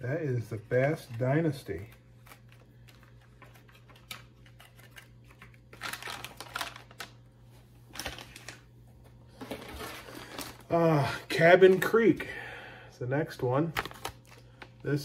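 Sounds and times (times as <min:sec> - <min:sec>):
faint hum: 0:00.0 - 0:15.0
plastic packaging rustling: 0:00.6 - 0:12.0, 0:13.7 - 0:15.0.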